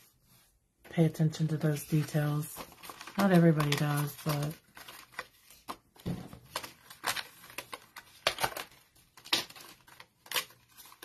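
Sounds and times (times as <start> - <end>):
cardstock rustling and crackling: 0.9 - 11.0.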